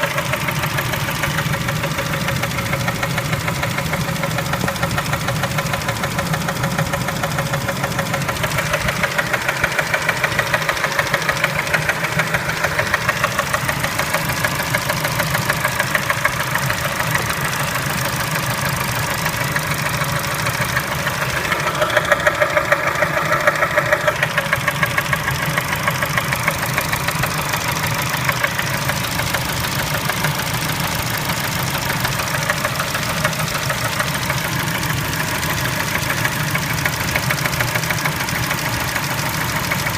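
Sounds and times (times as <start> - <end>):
engine running with fast knock: 0.0 - 39.9.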